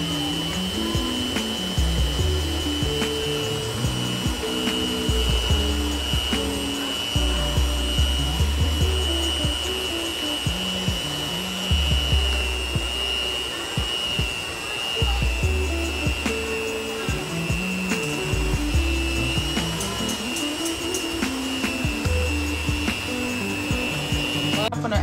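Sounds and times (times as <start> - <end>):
music with bass line: 0.0 - 14.4, 15.0 - 25.0
electric hand mixer whining: 0.0 - 25.0.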